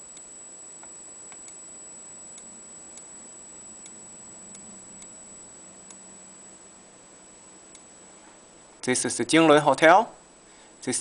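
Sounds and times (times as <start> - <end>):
low room hiss: 0.0 - 11.0
steady high whine: 0.0 - 11.0.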